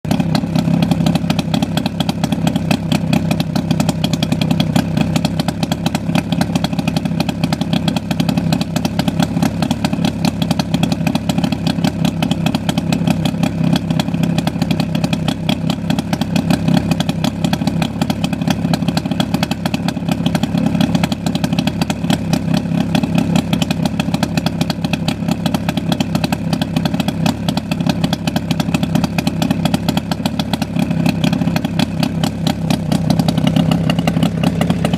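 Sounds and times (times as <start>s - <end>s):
two-stroke motorcycle engine running: 0.0s - 34.9s.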